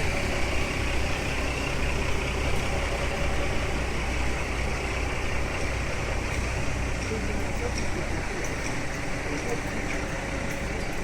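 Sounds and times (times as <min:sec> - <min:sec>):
helicopter rotor and engine rumble: 0:00.0 - 0:11.0.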